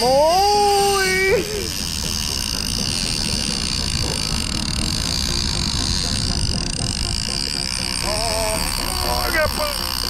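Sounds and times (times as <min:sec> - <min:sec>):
boat engine rumble: 0:00.0 - 0:10.0
high whine: 0:00.0 - 0:10.0.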